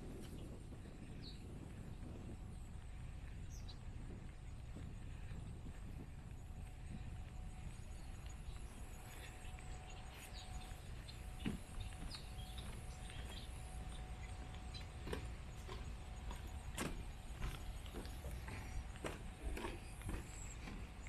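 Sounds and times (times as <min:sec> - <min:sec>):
footsteps on boardwalk and sand: 0:00.0 - 0:21.0
low outdoor rumble: 0:00.0 - 0:21.0.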